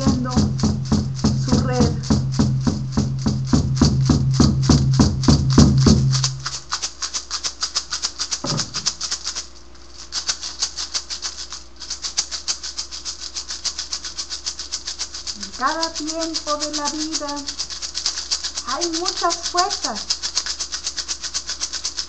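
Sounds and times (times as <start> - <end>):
rattle shaken rhythmically: 0.0 - 22.0.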